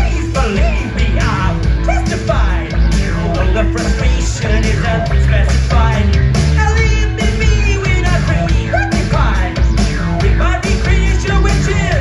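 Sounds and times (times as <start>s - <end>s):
bass guitar: 0.0s - 12.0s
keyboards: 0.0s - 12.0s
person singing: 0.0s - 12.0s.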